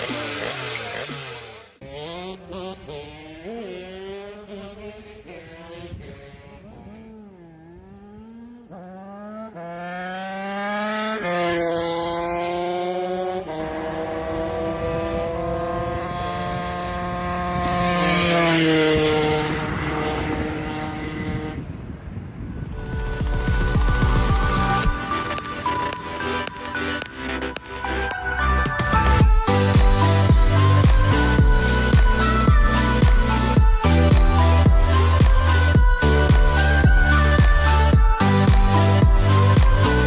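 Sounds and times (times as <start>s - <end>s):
two-stroke engine accelerating: 0.0s - 21.9s, 22.5s - 40.0s.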